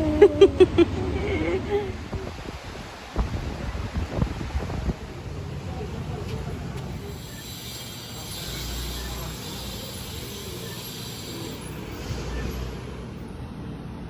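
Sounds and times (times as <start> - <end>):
moving vehicle rumble and hiss: 0.0 - 14.0.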